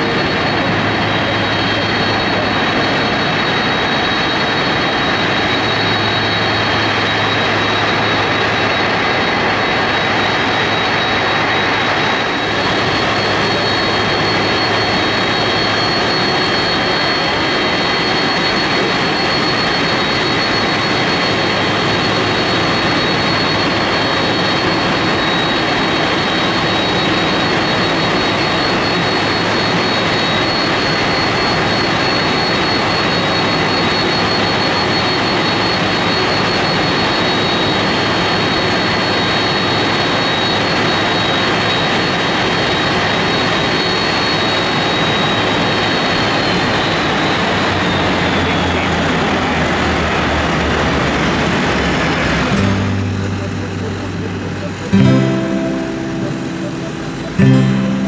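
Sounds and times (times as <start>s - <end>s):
jet engines roaring and whining: 0.0s - 57.8s.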